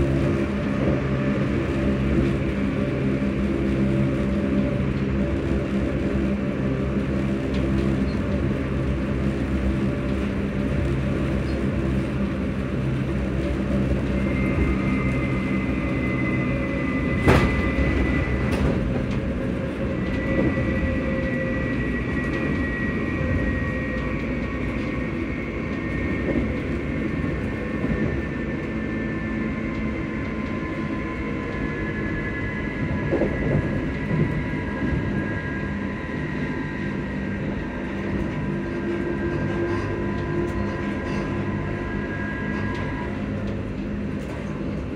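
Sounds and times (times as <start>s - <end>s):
train motors humming and whining: 0.0s - 44.9s.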